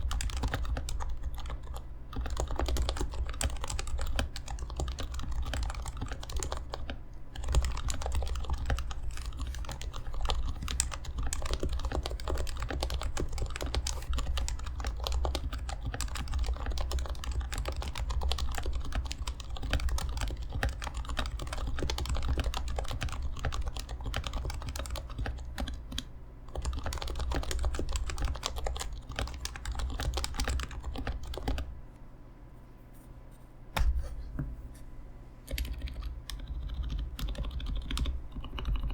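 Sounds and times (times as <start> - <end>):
fast typing on a keyboard: 0.0 - 31.7, 35.5 - 38.9.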